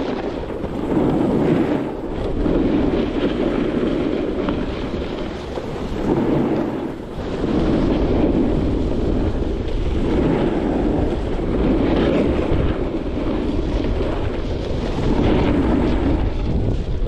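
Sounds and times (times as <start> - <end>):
skis sliding on packed snow: 0.0 - 17.0
wind rushing over microphone: 0.0 - 17.0.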